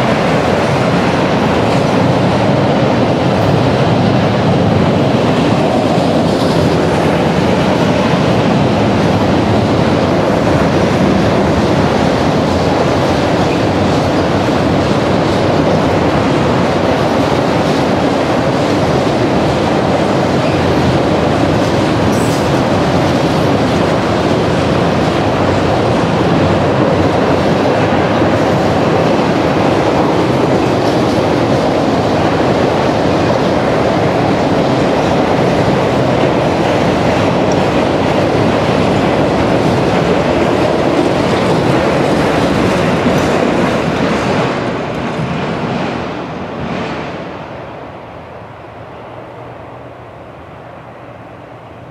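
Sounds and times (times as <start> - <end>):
freight train wheels on rails: 0.0 - 51.9.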